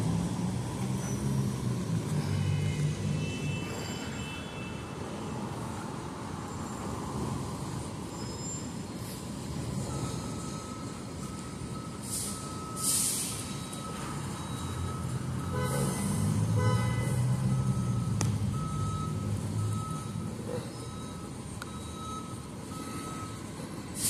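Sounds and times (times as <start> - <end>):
traffic noise: 0.0 - 24.0
vehicle reversing beeper: 0.0 - 24.0.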